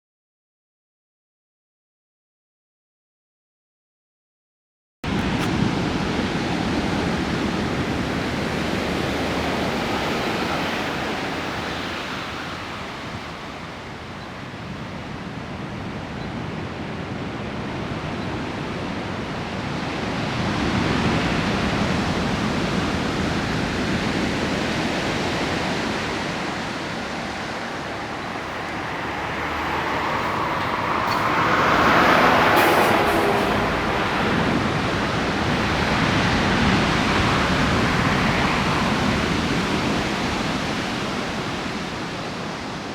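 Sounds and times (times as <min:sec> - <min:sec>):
ocean surf breaking: 0:05.1 - 0:42.9.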